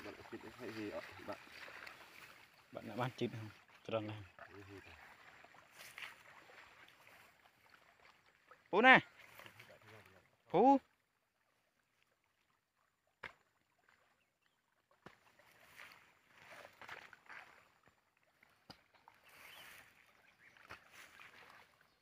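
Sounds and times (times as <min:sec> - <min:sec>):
muddy water sloshing: 0:00.0 - 0:22.0.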